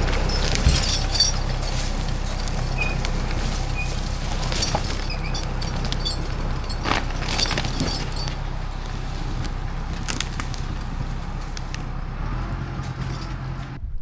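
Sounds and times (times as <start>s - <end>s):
rattles and clicks: 0.0s - 13.8s
machine engine running: 0.0s - 14.0s.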